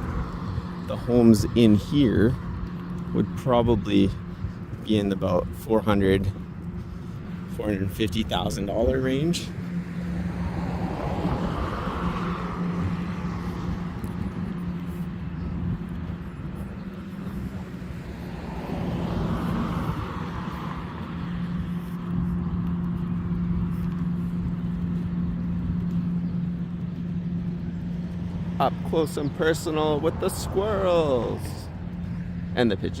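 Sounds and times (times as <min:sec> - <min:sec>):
cars passing: 0:00.0 - 0:33.0
steady low hum: 0:00.0 - 0:33.0.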